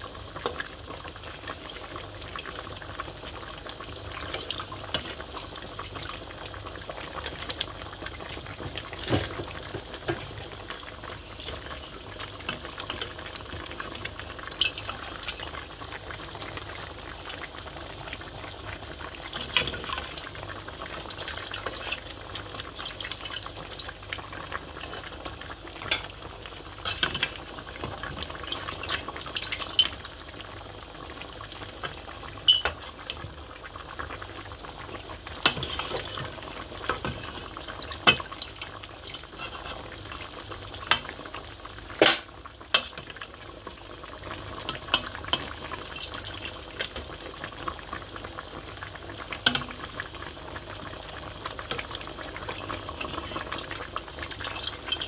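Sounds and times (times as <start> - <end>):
stew bubbling in pot: 0.0 - 55.0.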